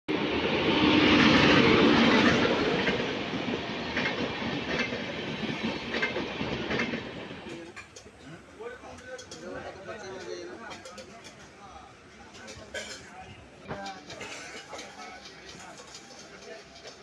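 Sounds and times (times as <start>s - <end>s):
train wheels clickety-clack: 0.9s - 8.2s, 8.9s - 11.6s, 12.2s - 17.0s.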